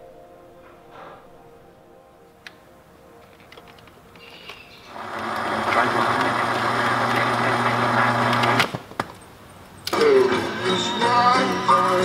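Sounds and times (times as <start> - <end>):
slow tape playback drone: 0.0 - 8.7, 9.9 - 12.0.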